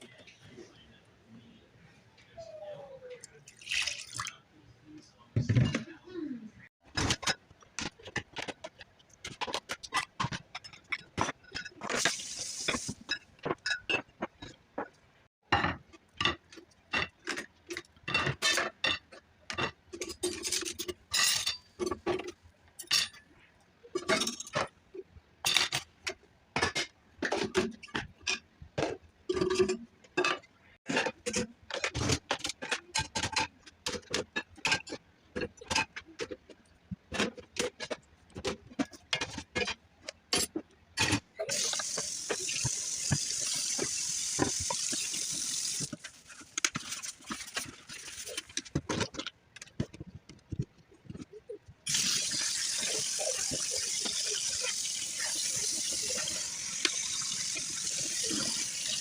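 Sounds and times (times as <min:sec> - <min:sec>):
dishes and cutlery clinking: 0:05.4 - 0:06.0, 0:06.9 - 0:24.8, 0:25.4 - 0:59.0.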